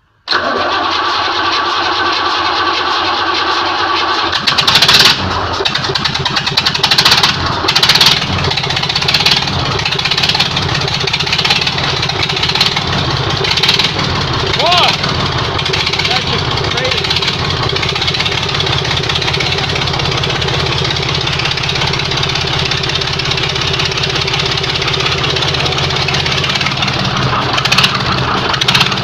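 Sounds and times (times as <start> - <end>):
diesel engine revving: 0.3 - 29.0
starter cranking engine: 0.3 - 29.0.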